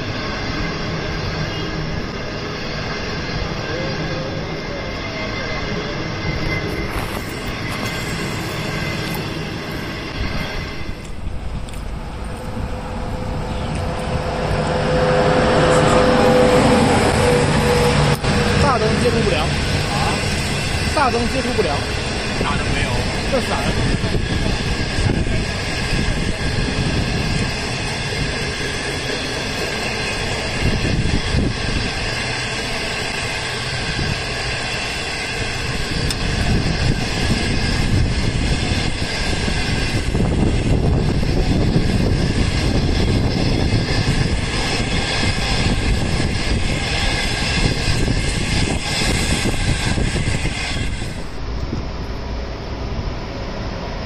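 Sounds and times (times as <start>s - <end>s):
train wheels clattering on rail: 6.3s - 52.2s.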